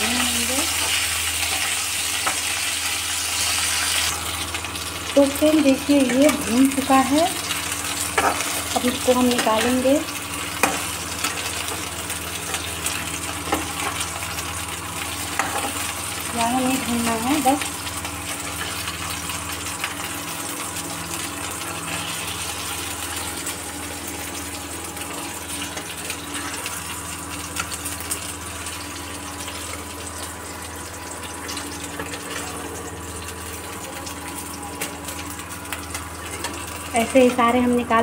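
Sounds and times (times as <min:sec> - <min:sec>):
induction cooktop hum: 0:00.0 - 0:38.0
okra sizzling in hot oil: 0:00.0 - 0:38.0.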